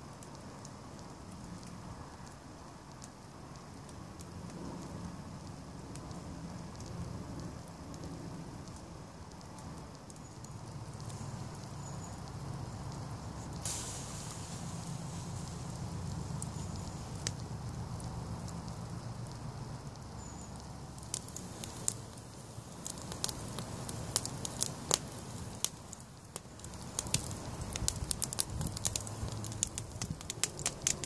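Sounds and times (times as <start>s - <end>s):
campfire crackling: 0.0s - 31.0s
low steady rumble: 4.0s - 31.0s.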